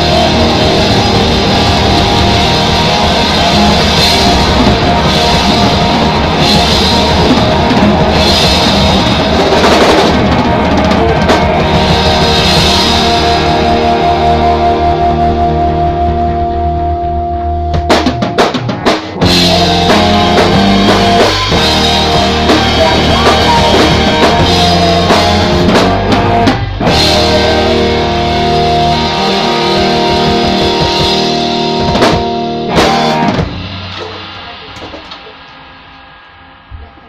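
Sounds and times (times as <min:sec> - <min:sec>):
bass guitar: 0:00.0 - 0:37.0
drum kit: 0:00.0 - 0:37.0
electric guitar: 0:00.0 - 0:37.0.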